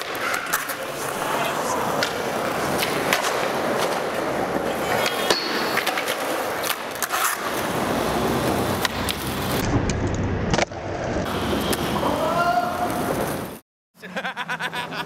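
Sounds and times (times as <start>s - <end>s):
skateboard wheels rolling on concrete: 0.0s - 13.6s.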